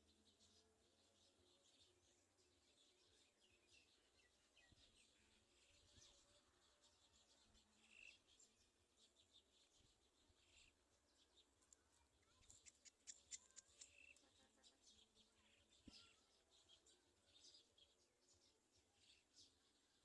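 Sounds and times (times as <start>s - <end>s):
faint high bird chirps: 0.0s - 20.0s.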